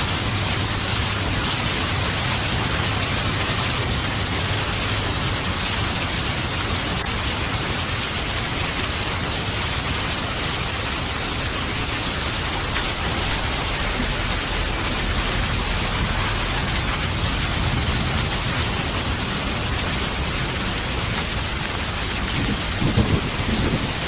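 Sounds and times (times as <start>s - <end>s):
continuous low rumble: 0.0s - 24.0s
dense rainfall: 0.0s - 24.0s.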